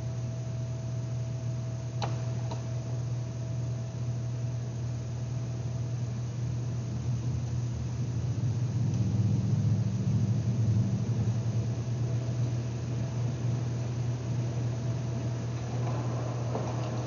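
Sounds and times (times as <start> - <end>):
higher mechanical hum: 0.0 - 17.0
low mechanical hum: 0.0 - 17.0.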